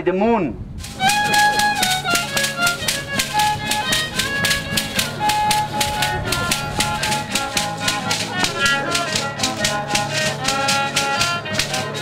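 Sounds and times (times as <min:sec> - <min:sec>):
strummed acoustic guitar: 0:00.8 - 0:12.0
violin melody: 0:00.8 - 0:12.0.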